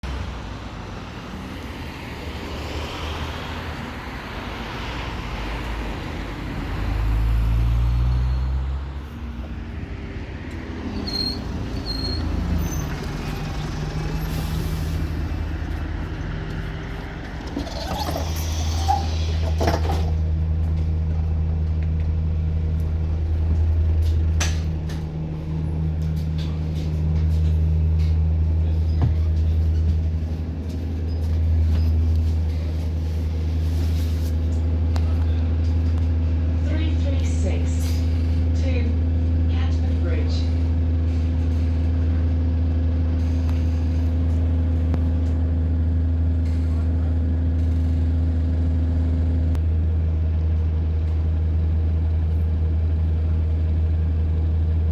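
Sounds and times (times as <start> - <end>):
bus engine accelerating: 0.0 - 54.9.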